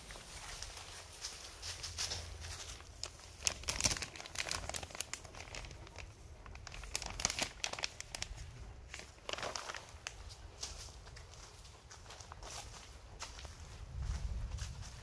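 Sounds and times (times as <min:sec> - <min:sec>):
plastic sheeting crinkling: 0:00.0 - 0:15.0.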